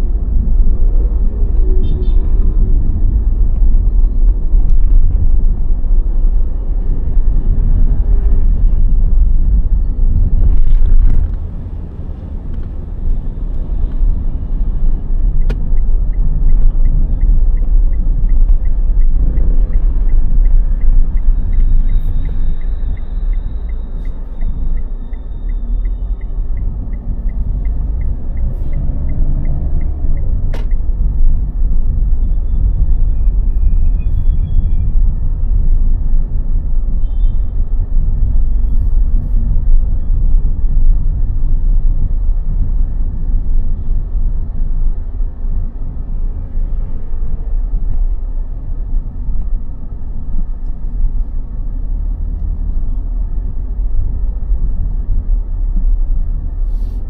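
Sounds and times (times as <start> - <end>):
low rumble of car traffic: 0.0 - 57.0.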